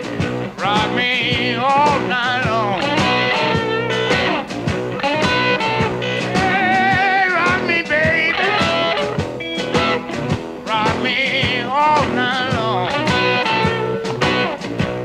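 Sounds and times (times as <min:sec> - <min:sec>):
electric guitar bending notes: 0:00.0 - 0:15.0
steady drum beat: 0:00.0 - 0:15.0.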